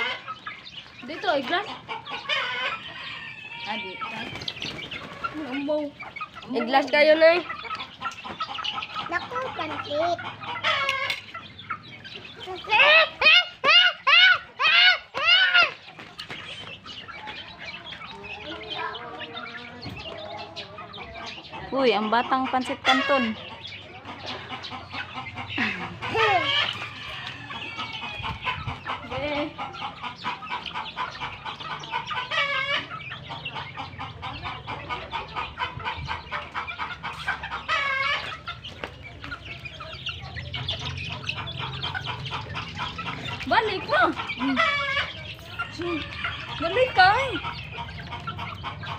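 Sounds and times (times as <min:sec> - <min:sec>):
chicks peeping: 0:00.0 - 0:48.9
soft chicken clucks: 0:00.0 - 0:48.9.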